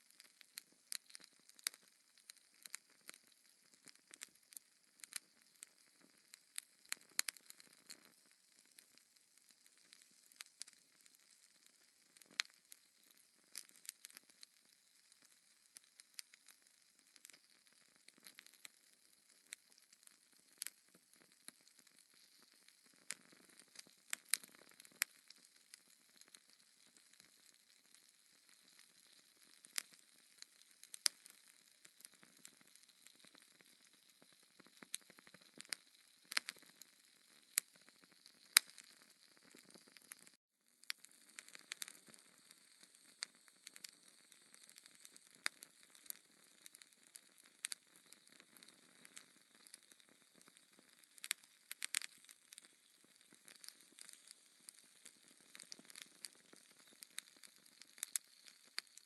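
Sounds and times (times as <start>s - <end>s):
faint steady hiss: 0.0s - 59.0s
logs crackling in fireplace: 0.0s - 59.0s.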